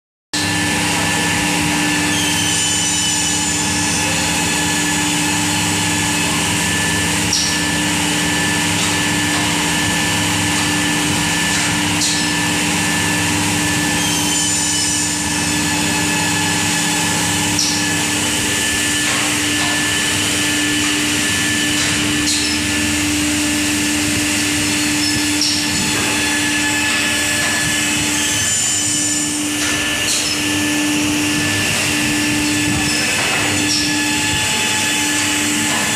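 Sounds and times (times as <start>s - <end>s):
machine humming with whine: 0.4s - 35.9s.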